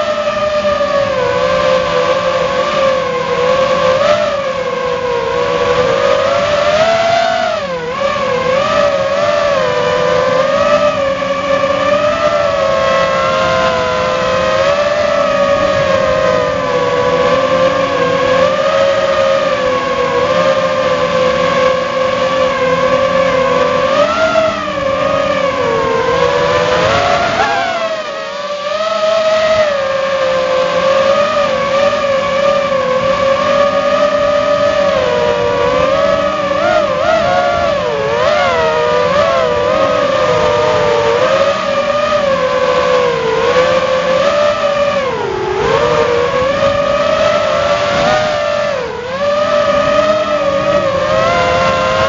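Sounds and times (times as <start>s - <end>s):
drone propellers whining: 0.0s - 52.0s.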